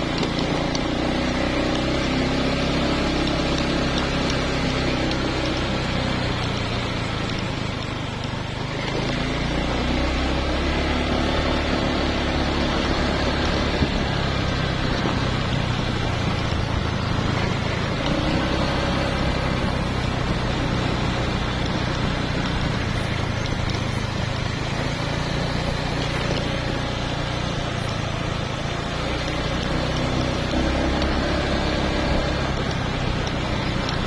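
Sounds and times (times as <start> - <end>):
road noise: 0.0 - 34.0
vehicle engine running: 0.0 - 34.0.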